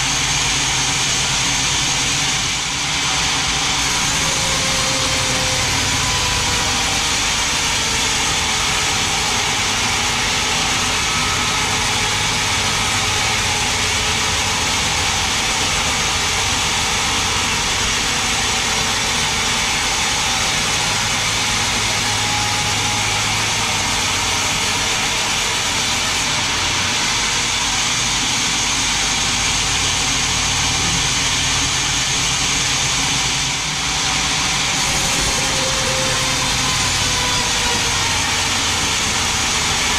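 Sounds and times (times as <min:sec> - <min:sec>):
low motor hum: 0:00.0 - 0:39.9.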